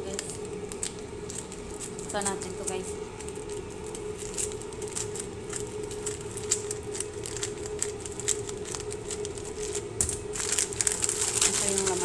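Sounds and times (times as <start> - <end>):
scissors snipping plastic packet: 0.0 - 12.0
steady low hum: 0.0 - 12.0.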